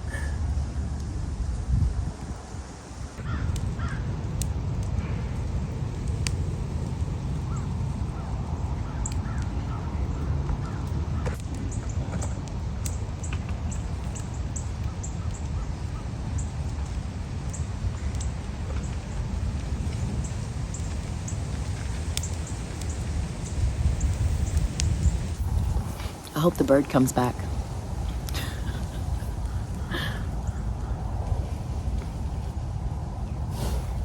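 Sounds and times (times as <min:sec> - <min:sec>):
low wind rumble: 0:00.0 - 0:34.0.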